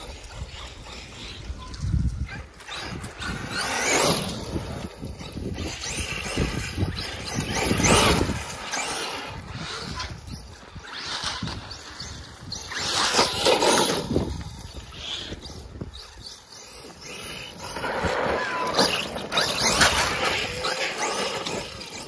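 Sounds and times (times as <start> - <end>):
rc truck motor whine: 0.0 - 22.0
wind over microphone: 0.0 - 22.0.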